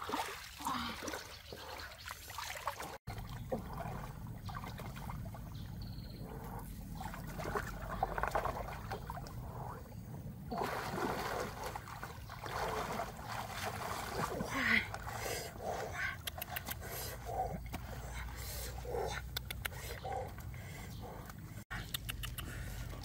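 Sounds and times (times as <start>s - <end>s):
stream water splashing: 0.0s - 6.0s, 6.8s - 9.8s, 10.5s - 20.5s.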